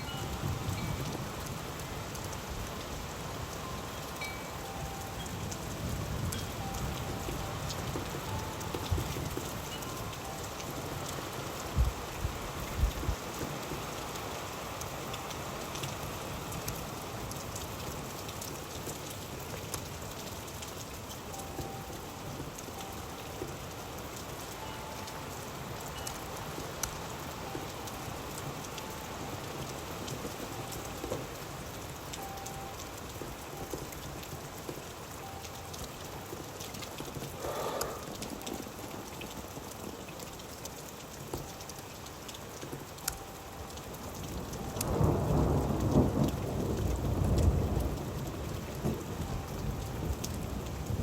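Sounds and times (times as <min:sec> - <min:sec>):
raindrops ticking on a surface: 0:00.0 - 0:51.0
steady rain: 0:00.0 - 0:51.0.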